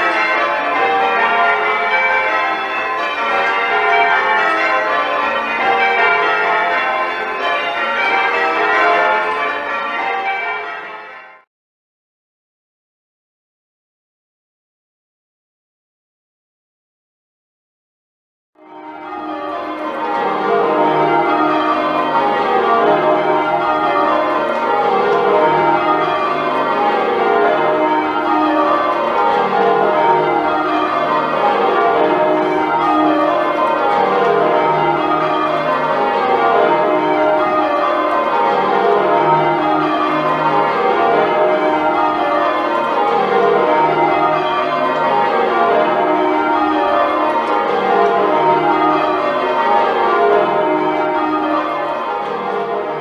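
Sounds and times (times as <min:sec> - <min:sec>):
church bells change ringing: 0:00.0 - 0:11.5, 0:18.6 - 0:53.0.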